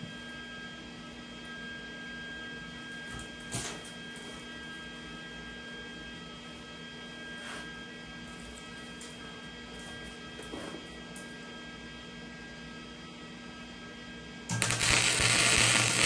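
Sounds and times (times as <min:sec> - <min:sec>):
electrical hum with tones: 0:00.0 - 0:16.0.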